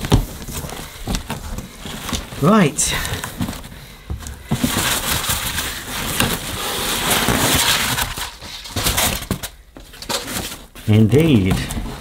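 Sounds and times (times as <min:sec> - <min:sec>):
packing crinkling and rustling: 0:00.0 - 0:12.0.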